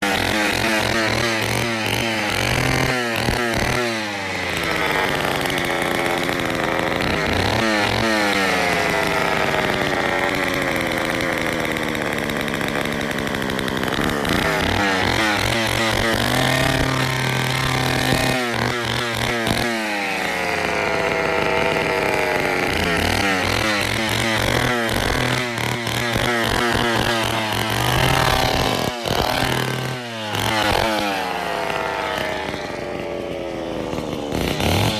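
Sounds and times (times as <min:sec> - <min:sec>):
chainsaw revving and idling: 0:00.0 - 0:34.9.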